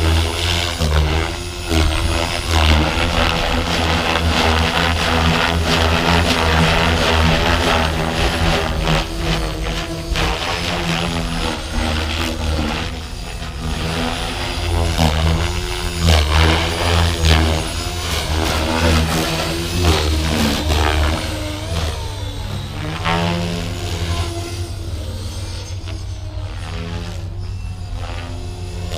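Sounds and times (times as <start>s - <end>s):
rc helicopter rotor whine: 0.0s - 28.9s.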